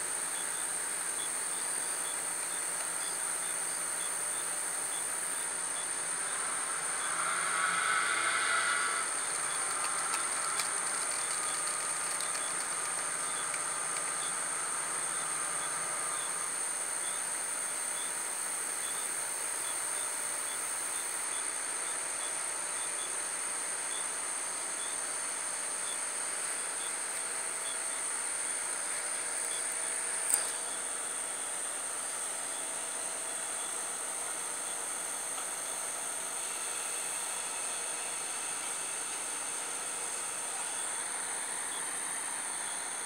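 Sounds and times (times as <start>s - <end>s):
high-pitched insect chorus: 0.0s - 43.0s
distant engine drone: 0.2s - 43.0s.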